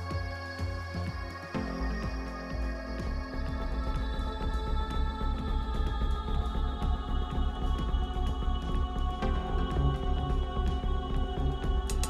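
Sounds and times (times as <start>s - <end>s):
dark droning soundtrack: 0.0s - 12.0s
heavy bass pulse: 0.0s - 12.0s.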